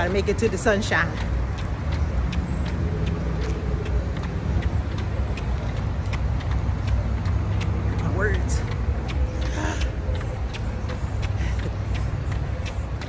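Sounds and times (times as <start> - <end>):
light clicks and knocks from jogging: 0.0 - 13.0
street traffic: 0.0 - 13.0.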